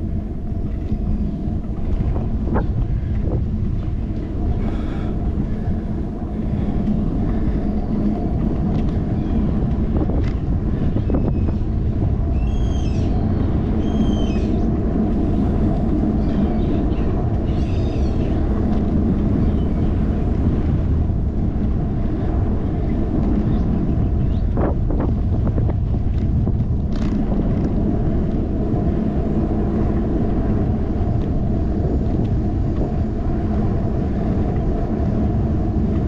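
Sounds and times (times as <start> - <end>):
wind buffeting camera microphone: 0.0 - 36.0.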